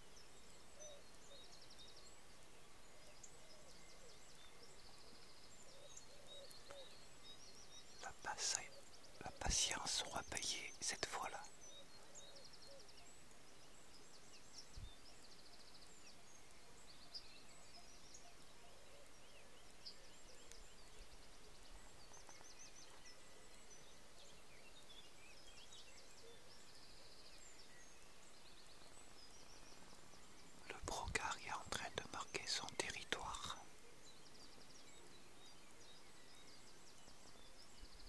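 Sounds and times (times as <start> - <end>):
quiet hiss: 0.0 - 38.0
songbirds chirping and trilling: 0.0 - 38.0.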